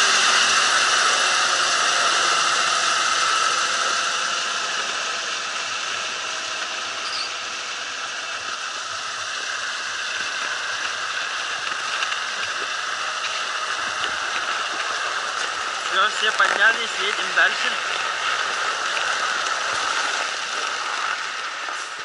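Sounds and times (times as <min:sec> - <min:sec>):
truck running on snow: 0:00.0 - 0:22.0.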